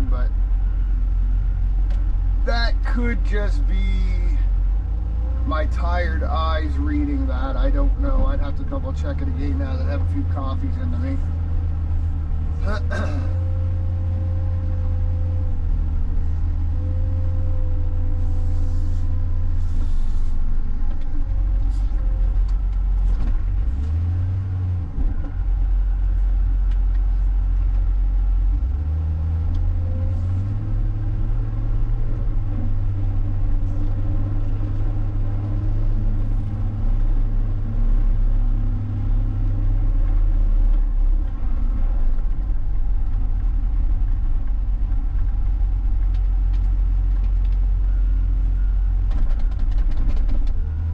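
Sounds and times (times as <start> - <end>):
wheel loader diesel engine: 0.0 - 50.9.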